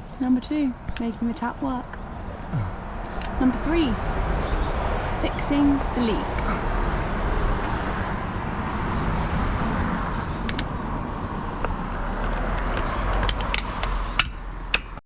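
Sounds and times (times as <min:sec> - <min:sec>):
rushing rumbling outdoor noise: 0:00.0 - 0:15.0.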